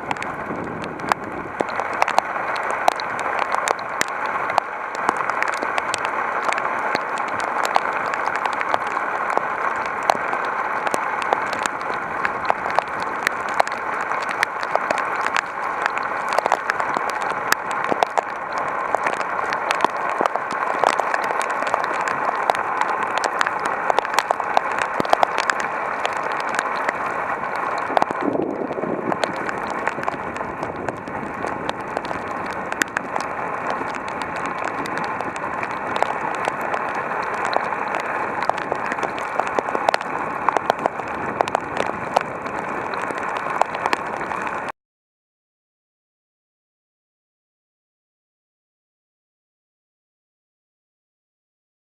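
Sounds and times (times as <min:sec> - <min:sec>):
heavy rain on hard surfaces: 0:00.0 - 0:44.7.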